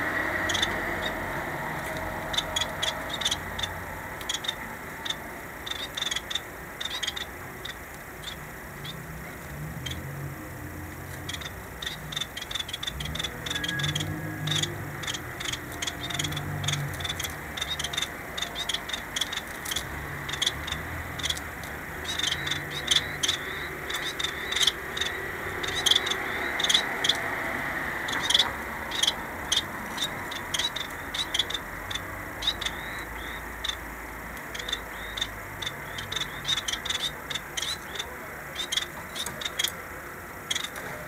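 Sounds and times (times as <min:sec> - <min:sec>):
finches chirping: 0:00.0 - 0:41.0.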